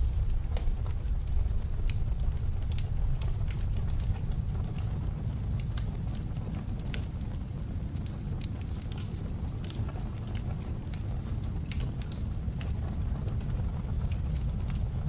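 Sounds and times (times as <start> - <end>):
low rumble of blizzard wind: 0.0 - 15.0
wood fire crackling and popping: 0.0 - 15.0.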